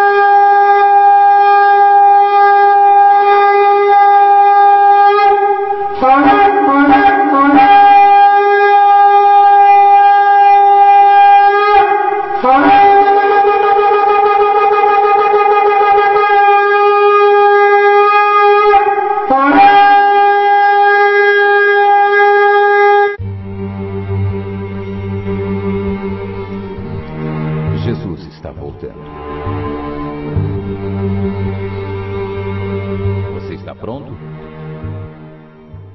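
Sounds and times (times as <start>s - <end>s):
shofar blasts: 0.0s - 23.2s, 28.8s - 34.4s.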